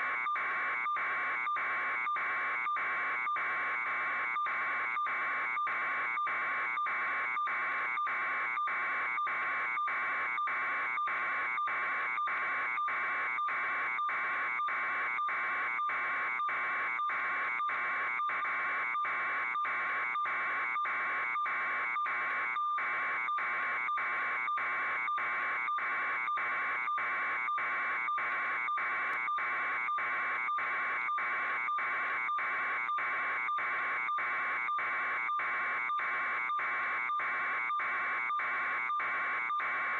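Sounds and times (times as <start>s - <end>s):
electronic alarm buzzing in pulses: 0.3s - 39.9s.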